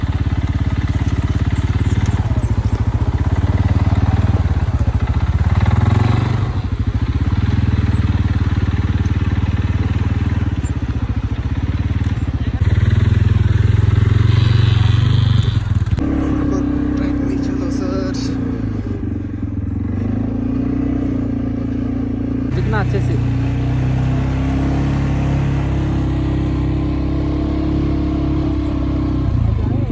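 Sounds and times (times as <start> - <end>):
quad bike engine running: 0.0 - 29.9.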